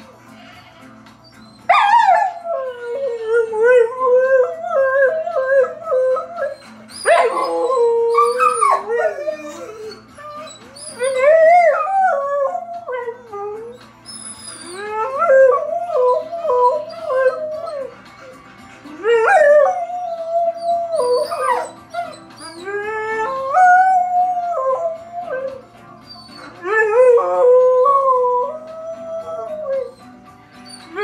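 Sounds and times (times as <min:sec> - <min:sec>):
dog howling: 0:01.4 - 0:18.2, 0:18.8 - 0:31.0.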